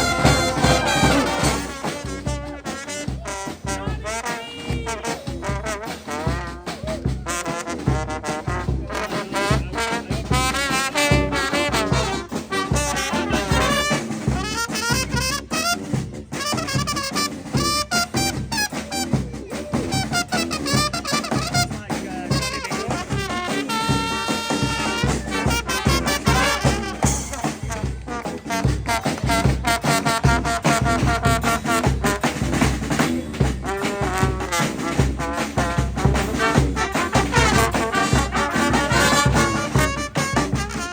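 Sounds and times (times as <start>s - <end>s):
brass band playing: 0.0s - 40.9s
steady drum beat: 0.0s - 40.9s.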